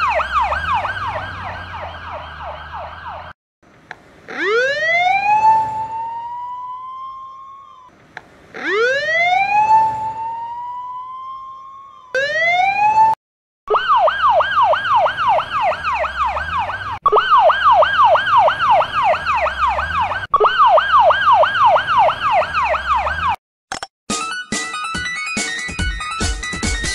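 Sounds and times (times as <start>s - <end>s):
electronic siren sweeping: 0.0s - 3.3s, 4.3s - 7.9s, 8.6s - 23.4s
fire truck siren wailing: 0.0s - 3.4s, 4.3s - 7.9s, 8.6s - 23.4s.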